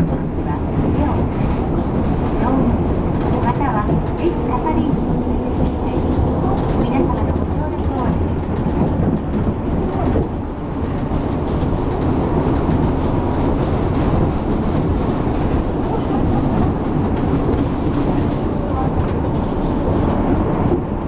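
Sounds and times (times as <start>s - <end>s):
monorail running rumble: 0.0s - 21.0s.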